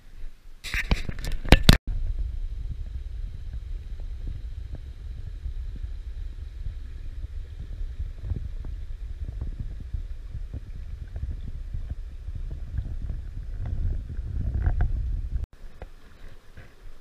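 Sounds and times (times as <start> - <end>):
wind buffeting microphone: 0.8 - 17.0.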